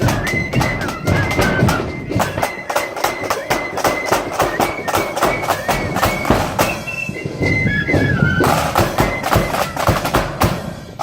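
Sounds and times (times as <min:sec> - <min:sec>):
flute melody: 0:00.0 - 0:11.0
loud drumbeat: 0:00.0 - 0:11.0.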